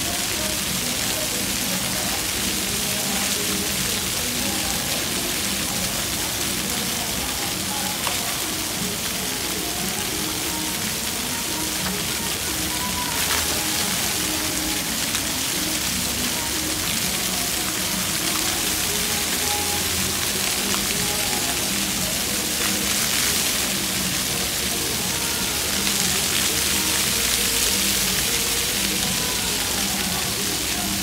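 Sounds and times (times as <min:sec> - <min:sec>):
fountain jets splashing on paving: 0:00.0 - 0:31.0.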